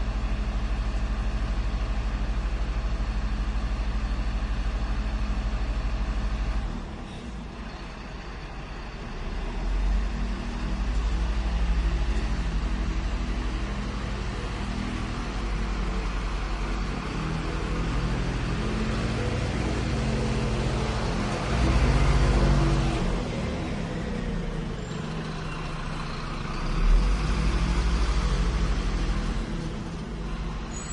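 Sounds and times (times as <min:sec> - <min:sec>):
garbage truck engine running: 0:00.0 - 0:30.9.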